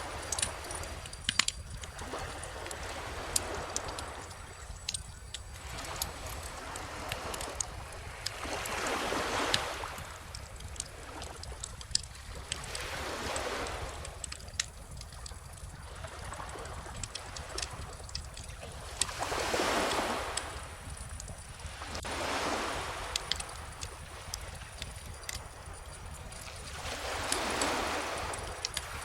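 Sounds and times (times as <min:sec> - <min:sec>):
bonfire crackling: 0:00.0 - 0:29.0
ocean waves washing ashore: 0:00.0 - 0:29.0.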